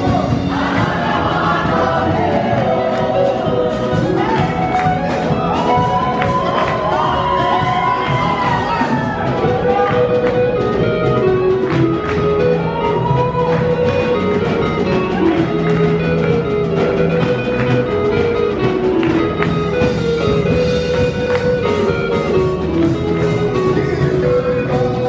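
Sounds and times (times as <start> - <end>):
plucked guitar: 0.0 - 25.0
steady bass line: 0.0 - 25.0.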